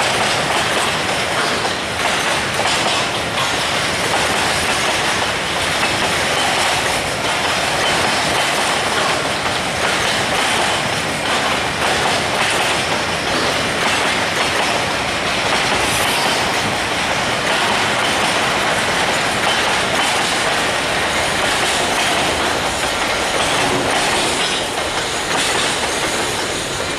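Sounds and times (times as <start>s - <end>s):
freight train wheels on rails: 0.0s - 26.9s.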